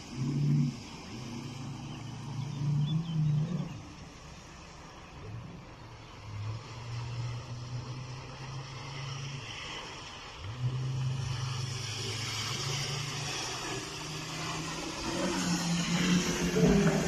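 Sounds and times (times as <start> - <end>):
outboard motor engine drone: 0.0 - 17.0.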